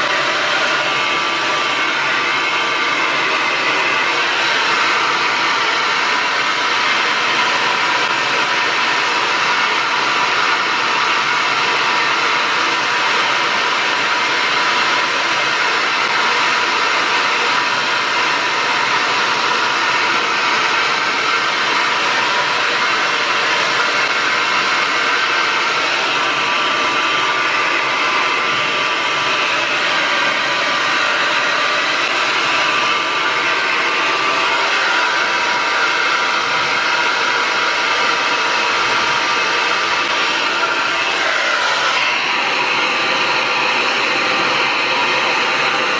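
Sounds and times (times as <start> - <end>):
hair dryer blowing air: 0.0 - 45.9.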